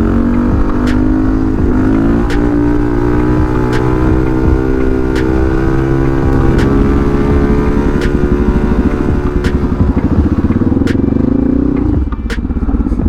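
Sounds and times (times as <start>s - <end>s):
sharp clicks: 0.0s - 12.6s
motorcycle engine revving: 0.0s - 13.0s.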